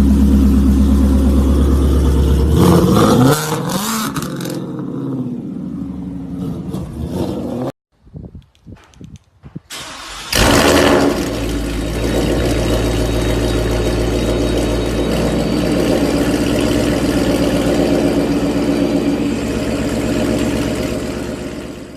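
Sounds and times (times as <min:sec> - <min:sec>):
car engine starting and idling: 0:00.0 - 0:07.7, 0:09.7 - 0:21.9.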